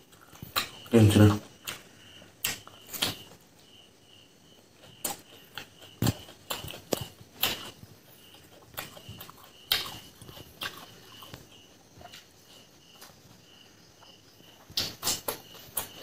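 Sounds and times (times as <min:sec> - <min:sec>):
wet chewing and lip smacks: 0:00.0 - 0:00.9, 0:01.5 - 0:03.4, 0:04.7 - 0:13.2, 0:14.0 - 0:16.0
insect chirping: 0:00.0 - 0:16.0.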